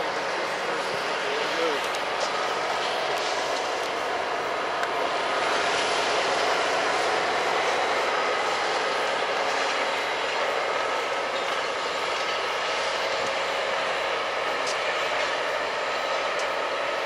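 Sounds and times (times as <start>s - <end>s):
distant freight train passing: 0.0s - 17.0s.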